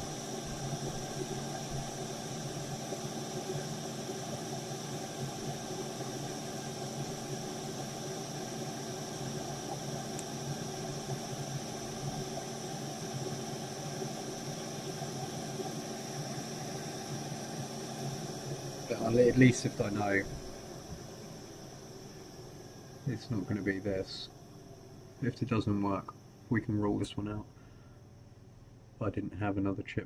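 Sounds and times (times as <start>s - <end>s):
fan whir and air hiss: 0.0s - 30.0s
low steady hum: 0.0s - 30.0s.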